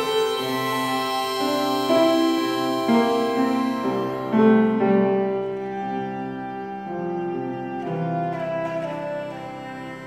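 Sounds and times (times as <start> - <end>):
grand piano: 0.0 - 10.0
sustained melody line: 0.0 - 10.0.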